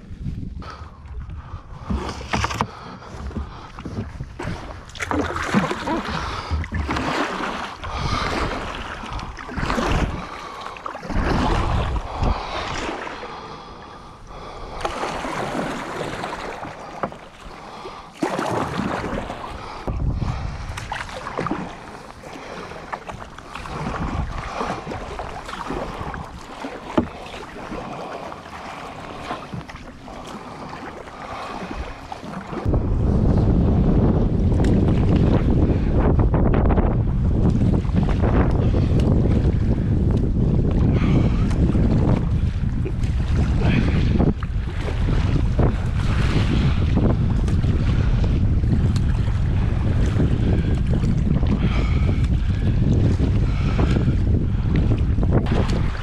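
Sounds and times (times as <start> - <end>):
wind on microphone: 0.0 - 56.0
paddle strokes splashing: 0.1 - 32.8, 36.8 - 56.0.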